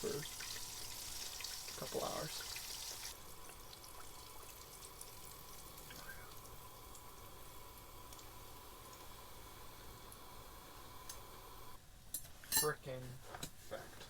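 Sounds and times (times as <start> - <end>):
fish frying in hot oil: 0.0 - 11.8.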